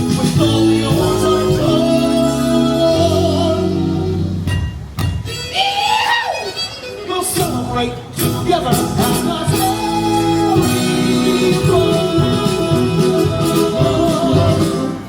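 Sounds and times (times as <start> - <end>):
person singing: 0.0 - 4.3, 6.9 - 15.0
instrumental accompaniment: 0.0 - 5.7, 6.4 - 15.0.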